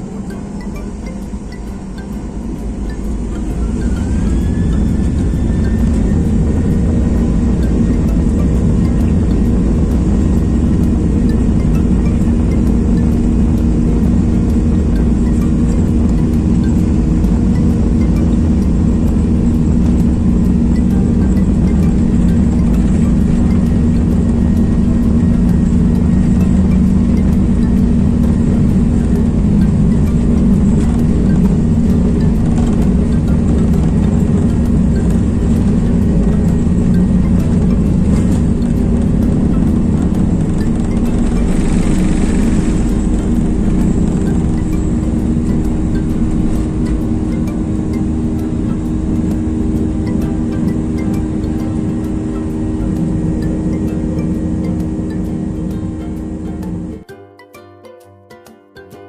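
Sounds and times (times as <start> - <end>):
vehicle engine whine: 0.0 - 57.0.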